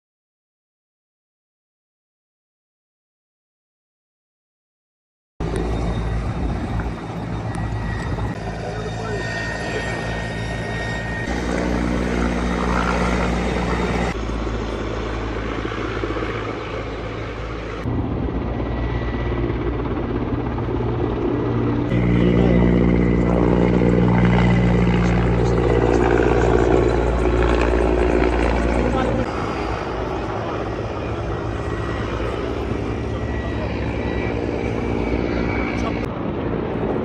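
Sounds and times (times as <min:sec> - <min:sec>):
helicopter rotor droning: 0:05.4 - 0:37.0.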